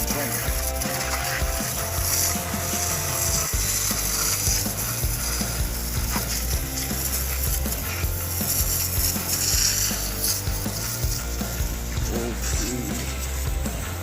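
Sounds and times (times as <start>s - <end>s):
background music: 0.0s - 14.0s
water spray hissing: 0.0s - 14.0s.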